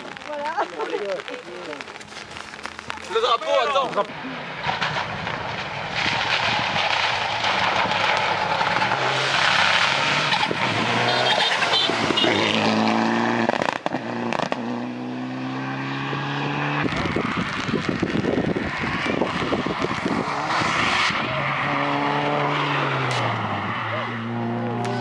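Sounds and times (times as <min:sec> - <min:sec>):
rally car engine revving: 0:03.8 - 0:25.0.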